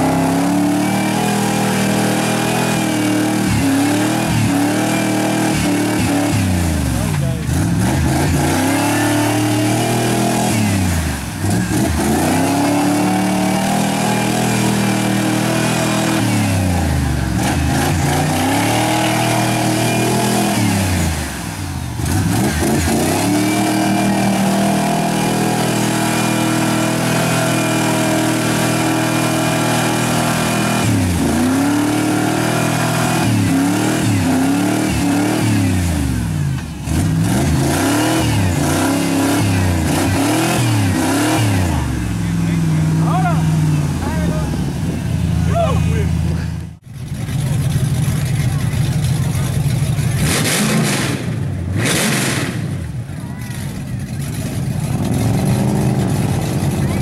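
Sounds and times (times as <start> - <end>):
truck engine revving hard: 0.0 - 57.0.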